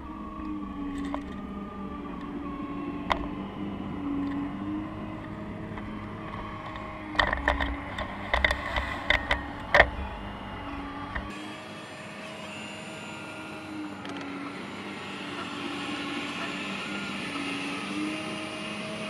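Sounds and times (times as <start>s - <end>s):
hydraulic pump whining: 0.0s - 19.0s.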